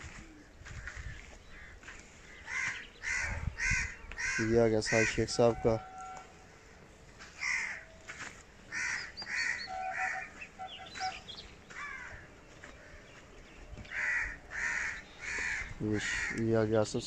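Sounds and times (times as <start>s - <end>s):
crows cawing: 0.0s - 16.5s
small birds chirping: 0.0s - 17.0s.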